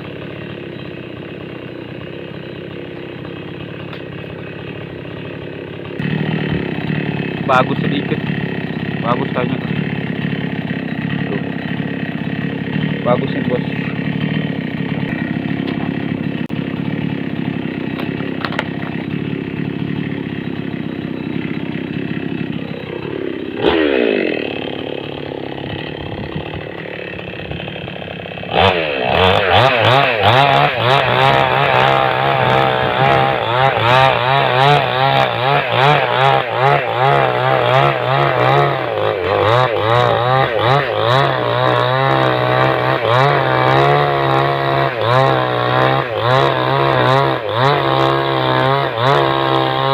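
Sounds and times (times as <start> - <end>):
chainsaw cutting log: 0.0 - 49.9
chainsaw running: 0.0 - 49.9.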